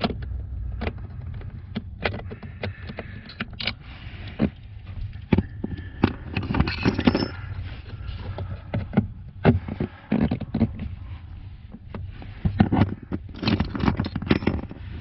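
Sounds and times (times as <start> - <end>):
plastic housing scraping and knocking: 0.0 - 11.0, 11.6 - 15.0
steady low hum: 0.0 - 15.0.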